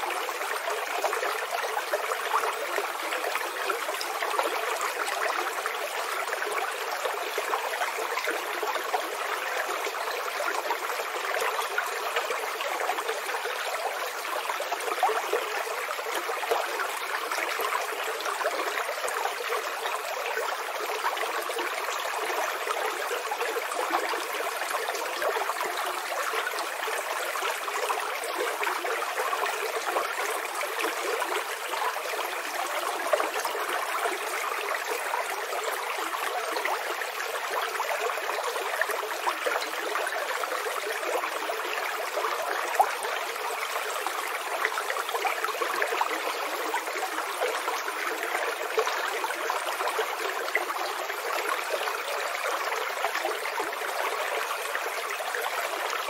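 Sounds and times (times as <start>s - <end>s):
small stream trickling: 0.0s - 56.0s.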